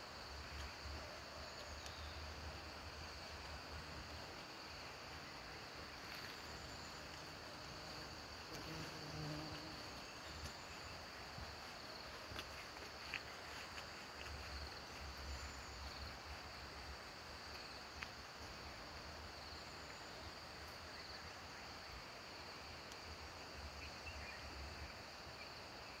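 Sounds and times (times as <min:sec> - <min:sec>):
insect trill: 0:00.0 - 0:26.0
soft hiss: 0:00.0 - 0:26.0.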